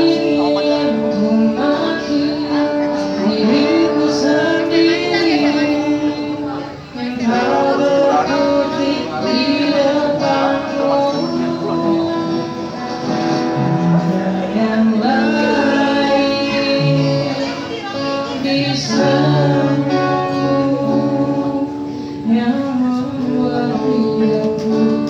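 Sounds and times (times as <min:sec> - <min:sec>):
guitar accompaniment: 0:00.0 - 0:25.0
slow pop song singing: 0:00.0 - 0:25.0.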